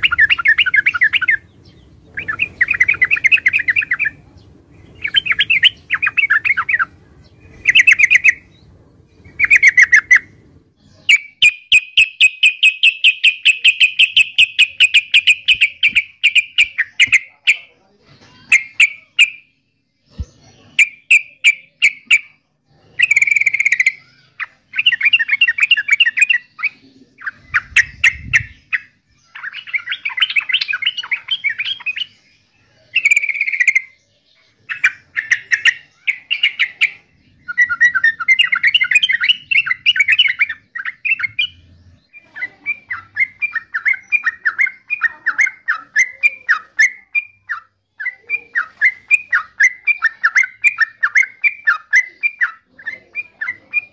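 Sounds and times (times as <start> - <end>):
bird singing bubbly chattering notes: 0.0 - 17.7, 18.3 - 53.9.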